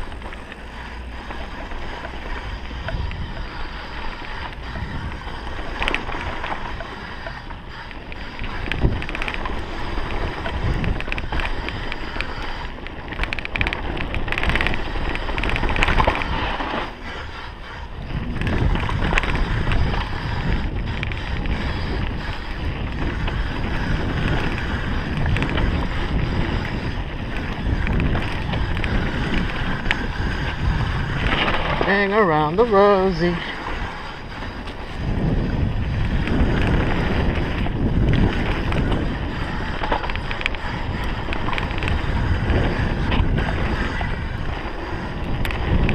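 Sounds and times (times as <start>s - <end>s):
bike rattling on rough trail: 0.0s - 45.9s
wind buffeting microphone: 0.0s - 45.9s.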